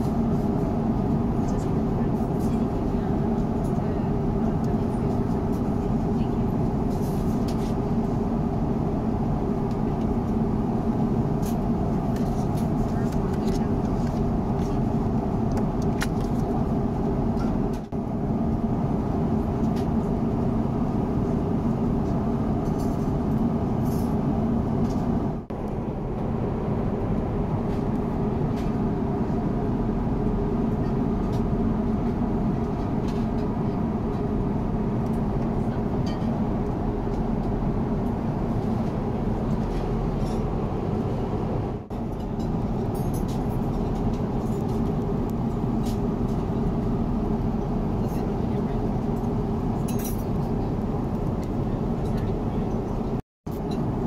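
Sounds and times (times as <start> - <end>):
airplane cabin drone in flight: 0.0 - 54.0.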